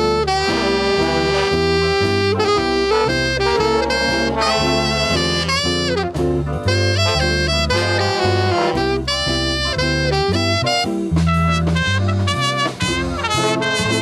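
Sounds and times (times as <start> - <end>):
swing band music: 0.0 - 14.0.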